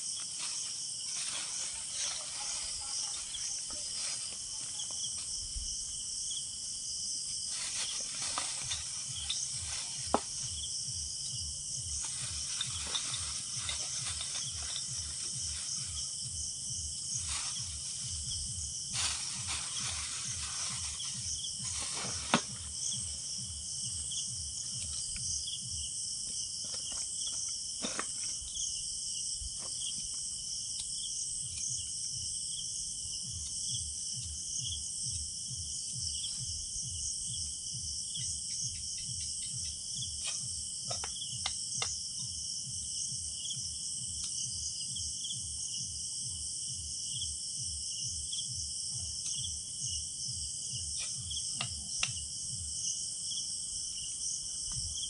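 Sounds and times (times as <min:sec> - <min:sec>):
crickets and insects trilling: 0:00.0 - 0:55.0.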